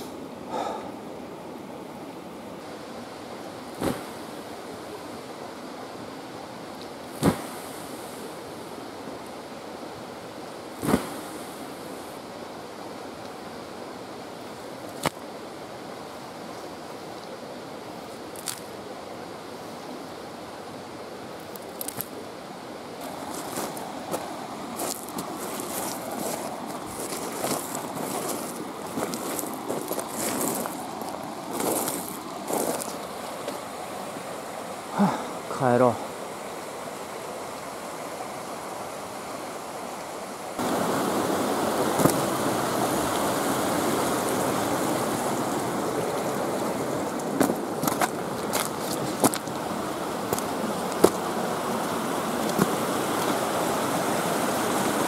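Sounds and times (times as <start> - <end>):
campfire hissing: 0.0 - 55.0
mountain stream rushing: 0.0 - 55.0.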